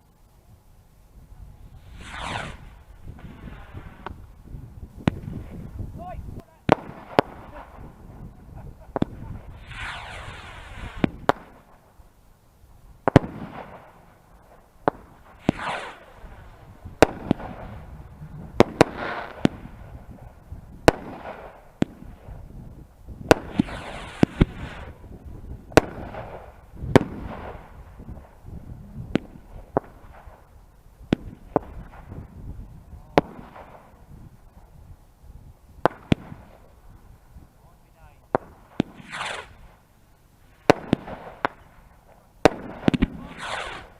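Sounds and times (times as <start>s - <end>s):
fireworks crackling: 0.0s - 43.9s
whistling fireworks: 1.3s - 12.0s, 13.0s - 39.9s, 40.5s - 43.9s
fireworks banging: 1.6s - 12.0s, 13.0s - 34.8s, 35.5s - 39.8s, 40.5s - 43.9s.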